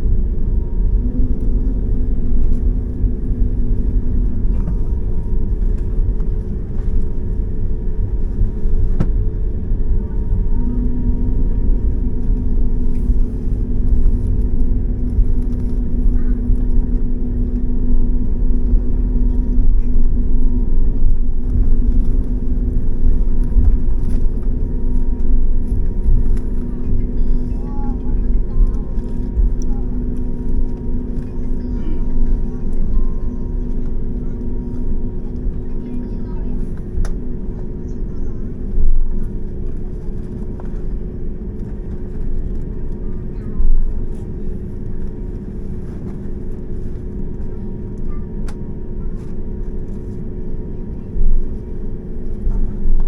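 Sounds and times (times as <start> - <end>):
droning engine hum: 0.0 - 53.0
vehicle interior rumble: 0.0 - 53.0.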